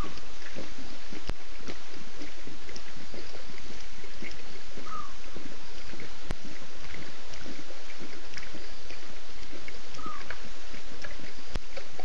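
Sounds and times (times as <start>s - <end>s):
lions lapping water: 0.0s - 12.0s.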